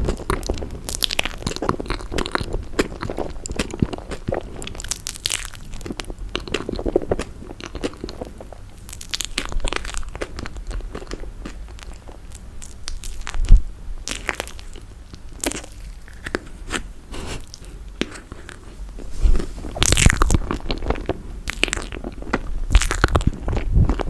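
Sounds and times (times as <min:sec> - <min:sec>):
crunching and chewing marshmallow: 0:00.0 - 0:24.0.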